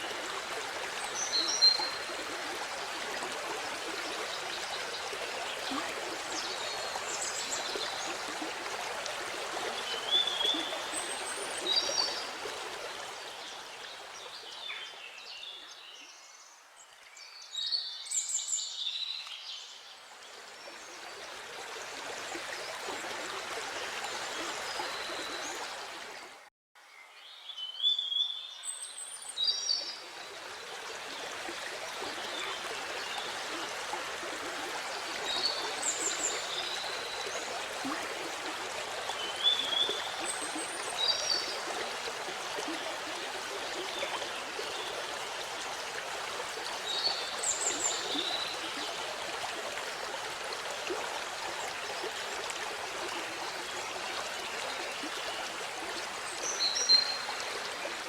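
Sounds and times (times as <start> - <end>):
running water: 0.0 - 16.0, 19.4 - 26.5, 29.3 - 58.0.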